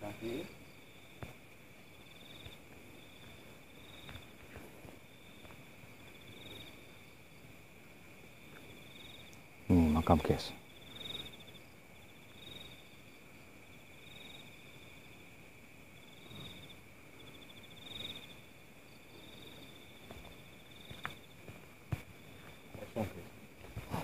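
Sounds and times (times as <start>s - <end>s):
night insects trilling: 0.0s - 24.0s.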